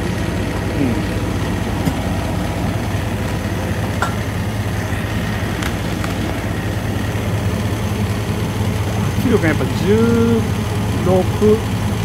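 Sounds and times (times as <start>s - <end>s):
air conditioning running: 0.0s - 12.0s
car engine idling: 0.0s - 12.0s.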